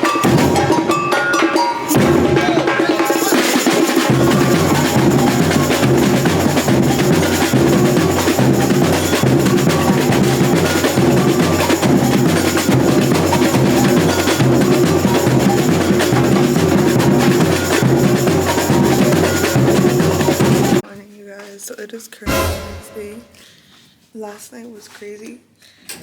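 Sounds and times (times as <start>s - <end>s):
music with drum beat and bass: 0.0s - 20.8s, 22.3s - 23.2s.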